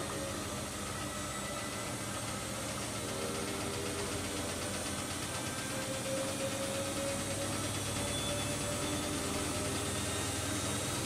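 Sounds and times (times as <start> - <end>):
motor whine: 0.0 - 11.0
washing machine motor hum: 0.0 - 11.0.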